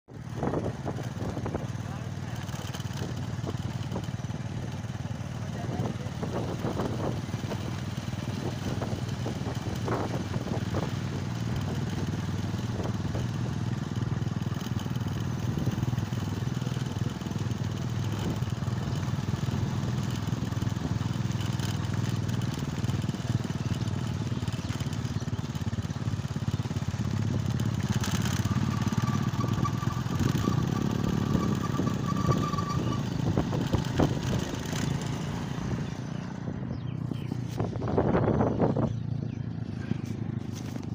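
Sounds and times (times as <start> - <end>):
motorcycle engine drone: 0.1 - 40.9
road and wind noise: 0.1 - 40.9.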